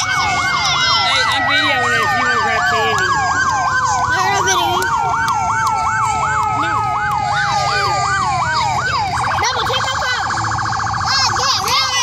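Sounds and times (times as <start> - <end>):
electronic siren yelping: 0.0 - 12.0
steady falling siren tone: 0.0 - 12.0.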